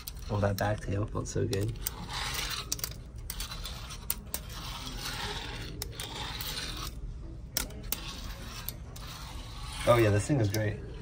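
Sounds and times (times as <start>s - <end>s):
fingerboard wheels rolling on sink: 0.0s - 7.0s, 7.6s - 10.8s.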